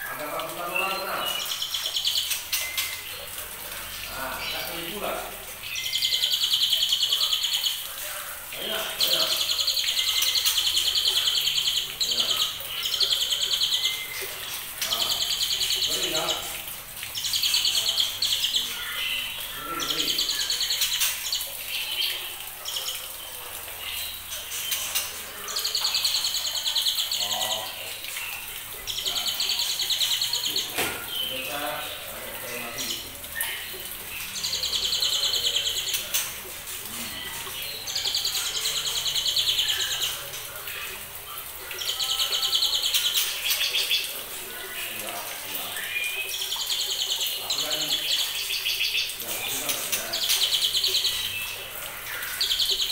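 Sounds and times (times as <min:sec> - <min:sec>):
birds chattering: 0:00.0 - 0:52.9.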